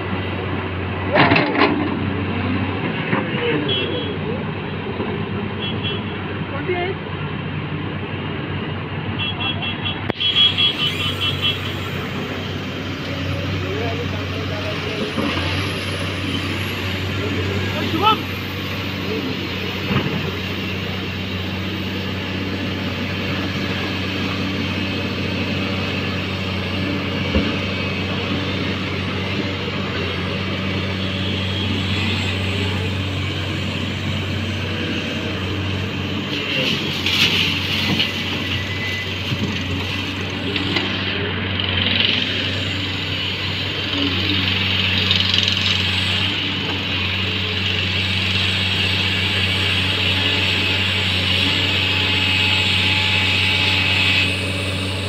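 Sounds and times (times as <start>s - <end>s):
diesel engines humming: 0.0s - 55.0s
excavator hydraulics: 10.2s - 55.0s.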